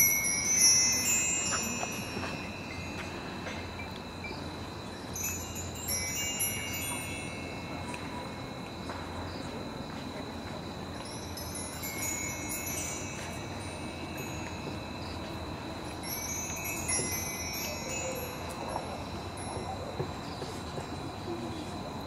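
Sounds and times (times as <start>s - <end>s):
metal chimes tinkling: 0.0s - 9.6s, 10.2s - 21.2s.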